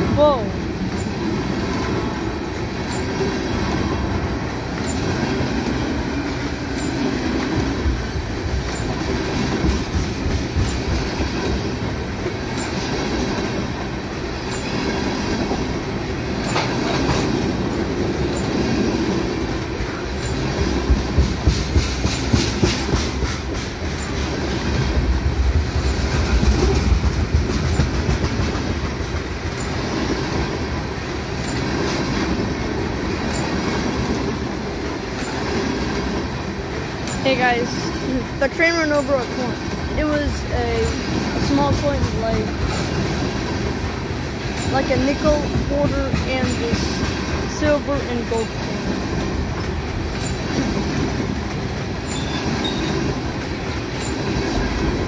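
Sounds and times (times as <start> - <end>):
freight train wheels rumbling: 0.0 - 55.0
train wheels clacking: 0.0 - 55.0.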